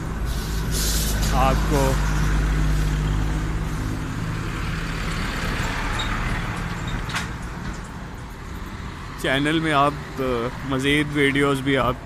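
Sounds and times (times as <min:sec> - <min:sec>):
city street traffic: 0:00.0 - 0:12.0
heavy vehicle engine rumbling: 0:00.0 - 0:12.0.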